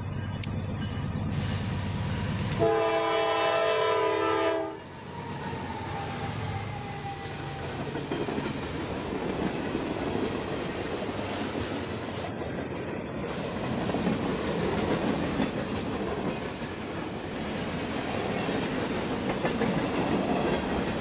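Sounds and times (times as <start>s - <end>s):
freight train rolling past: 0.0s - 21.0s
steel wheels rumbling on rails: 0.0s - 21.0s.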